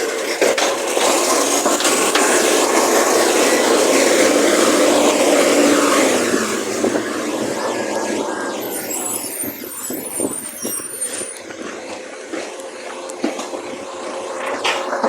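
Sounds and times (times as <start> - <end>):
recycling truck running: 0.0 - 15.0.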